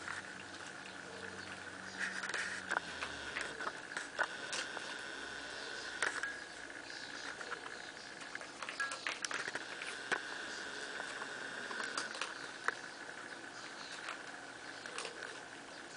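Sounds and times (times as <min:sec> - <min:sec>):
faint high hum: 0:00.0 - 0:15.9.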